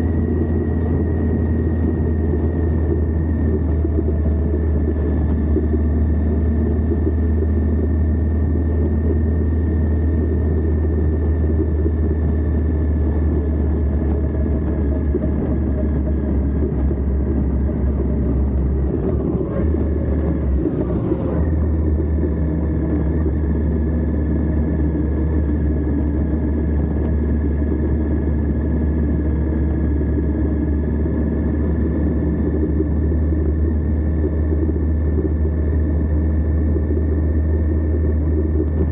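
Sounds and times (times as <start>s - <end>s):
motorcycle engine running: 0.0s - 38.9s
wind and road rumble: 0.0s - 38.9s.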